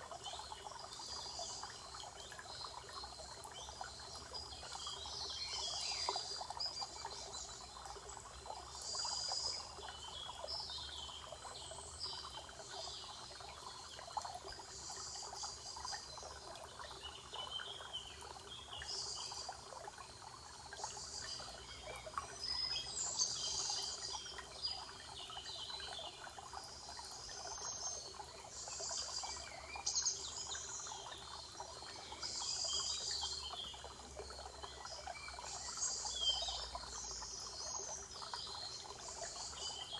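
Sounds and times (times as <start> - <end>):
crackling trickling background: 0.0 - 39.9.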